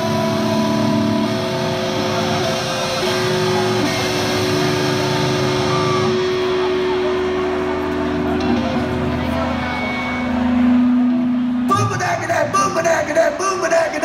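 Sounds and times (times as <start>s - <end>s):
electric guitar notes ringing: 0.0s - 11.9s.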